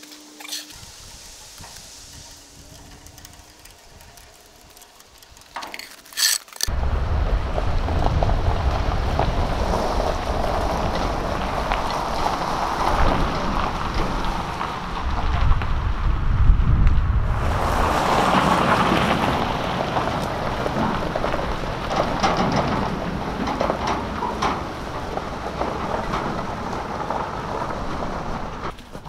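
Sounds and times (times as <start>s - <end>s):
wind buffeting microphone: 0.7s - 5.6s, 6.7s - 29.0s
trailer rumbling over gravel: 0.7s - 29.0s.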